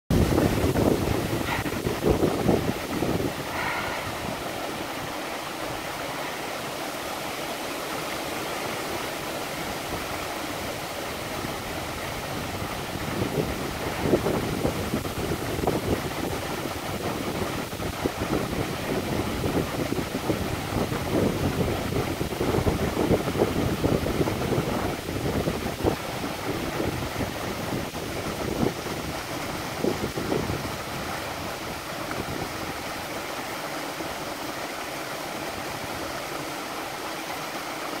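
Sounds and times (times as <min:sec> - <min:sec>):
waterfall rushing and splashing: 0:00.1 - 0:38.0.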